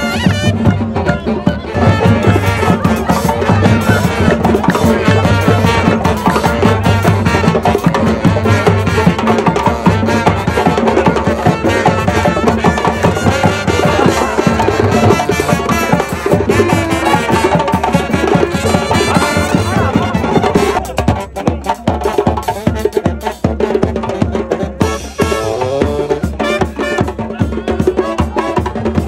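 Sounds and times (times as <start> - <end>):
drum kit beat: 0.0 - 29.0
hand drum: 0.0 - 29.0
saxophone: 0.0 - 29.0
trombone: 0.0 - 29.0.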